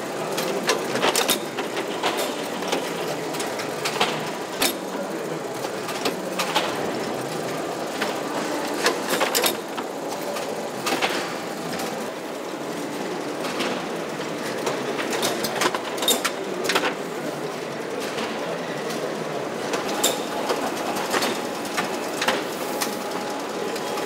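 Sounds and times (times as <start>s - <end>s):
sharp conveyor clacks: 0.0s - 24.0s.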